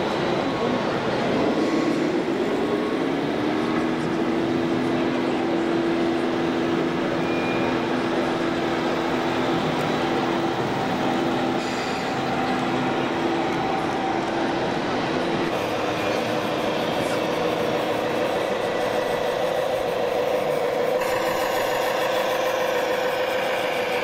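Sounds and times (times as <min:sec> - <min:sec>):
hall noise: 0:00.0 - 0:24.0
model truck motor whine: 0:03.4 - 0:24.0.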